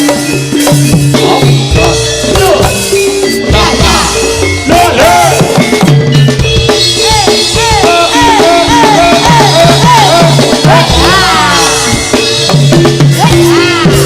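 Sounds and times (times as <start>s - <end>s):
drums playing busy rhythm: 0.0s - 14.0s.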